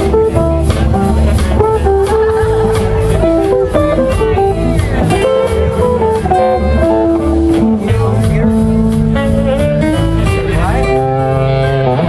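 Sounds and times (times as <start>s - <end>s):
blues band playing: 0.0s - 12.0s
electric guitar: 0.0s - 12.0s.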